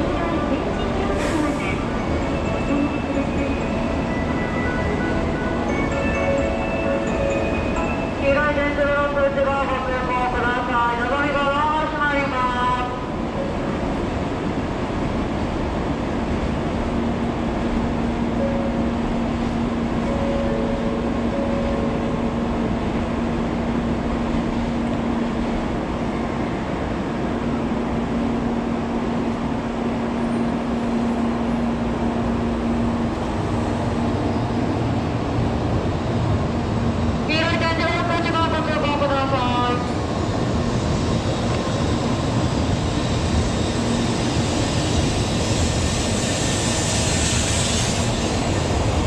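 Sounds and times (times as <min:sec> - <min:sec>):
deep train rumble: 0:00.0 - 0:49.0
train rushing running noise: 0:00.0 - 0:49.0.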